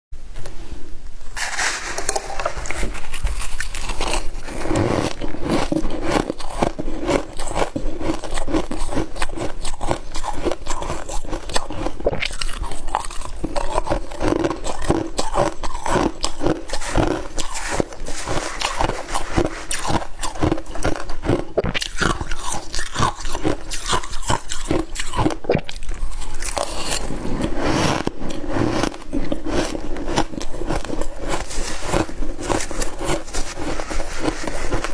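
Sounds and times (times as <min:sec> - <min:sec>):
frost being chewed and crunched: 0:01.4 - 0:34.9.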